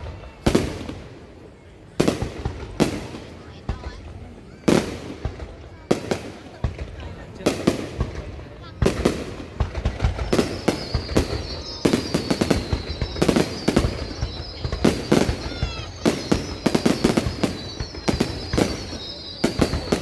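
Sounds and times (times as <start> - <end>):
fireworks bangs: 0.0 - 20.0
fireworks whistling: 0.0 - 20.0.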